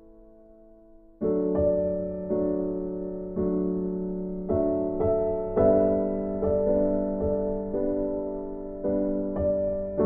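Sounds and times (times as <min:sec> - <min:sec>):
slow piano chords: 0:00.0 - 0:10.0.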